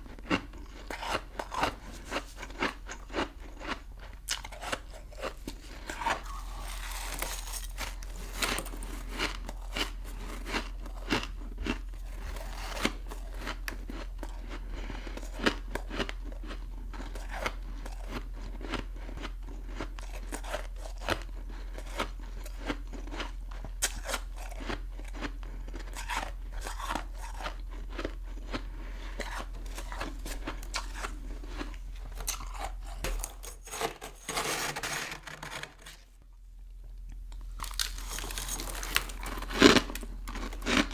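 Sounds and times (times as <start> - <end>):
crunching and chewing ice: 0.0 - 36.1, 36.8 - 40.9.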